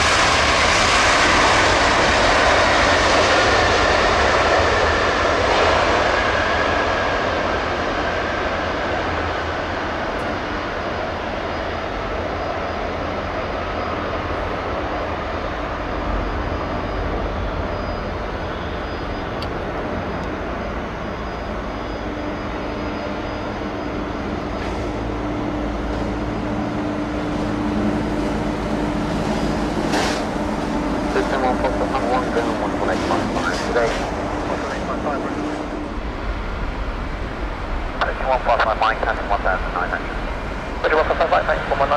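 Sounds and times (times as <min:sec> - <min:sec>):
jet engines at taxi power: 0:00.0 - 0:41.9.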